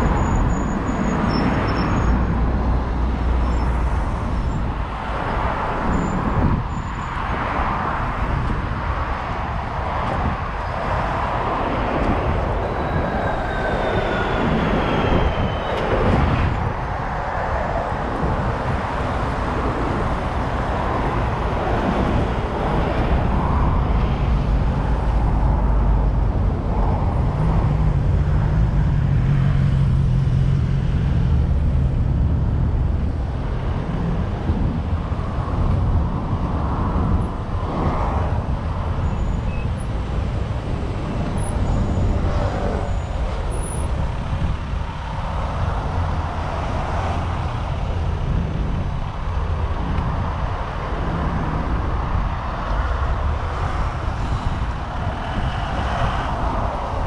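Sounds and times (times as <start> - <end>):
street traffic rumble: 0.0 - 57.0.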